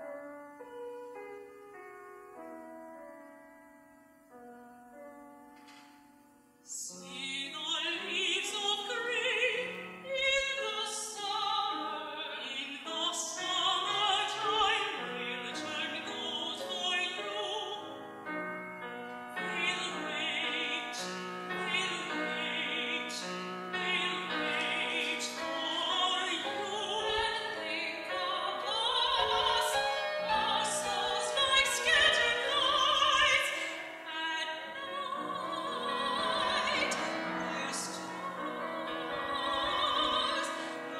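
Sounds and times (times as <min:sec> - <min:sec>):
piano accompaniment: 0:00.0 - 0:40.9
soprano singing with vibrato: 0:06.7 - 0:18.2, 0:19.3 - 0:40.9.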